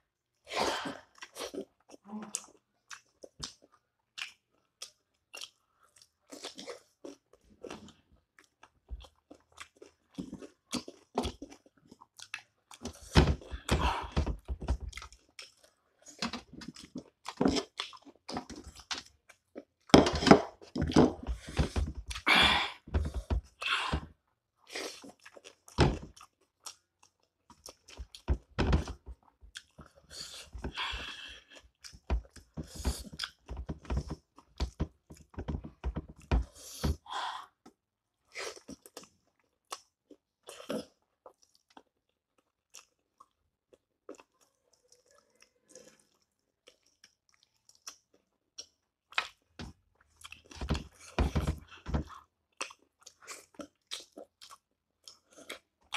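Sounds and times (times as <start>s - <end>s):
person chewing and crunching food: 0.7s - 55.9s.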